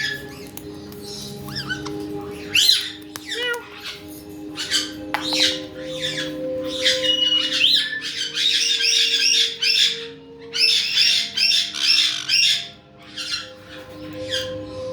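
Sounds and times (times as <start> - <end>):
parrots squawking: 0.0 - 14.9.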